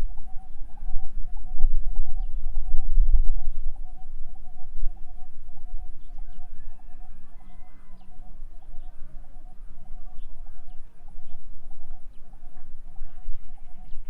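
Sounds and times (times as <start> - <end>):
birds calling low notes: 0.0 - 14.0
higher bird chirps: 0.0 - 14.0.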